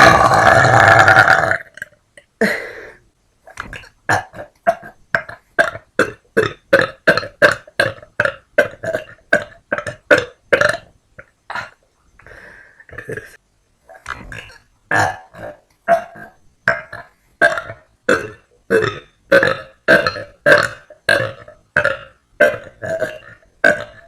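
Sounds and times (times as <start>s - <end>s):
person burping: 0.0s - 11.9s, 12.8s - 24.0s.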